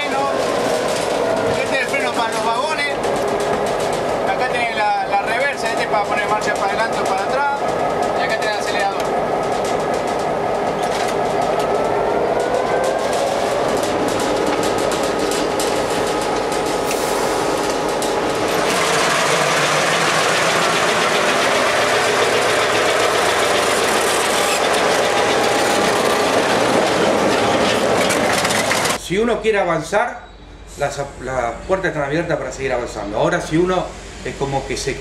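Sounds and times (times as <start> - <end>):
locomotive running: 0.0 - 29.4.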